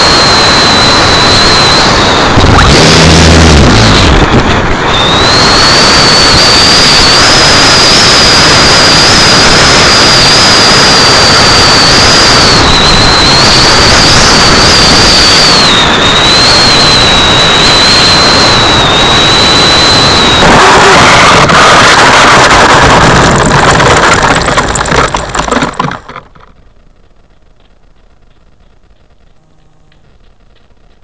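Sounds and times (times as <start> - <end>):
wind rushing on microphone: 0.0 - 25.6
model plane motor whine: 0.0 - 26.0.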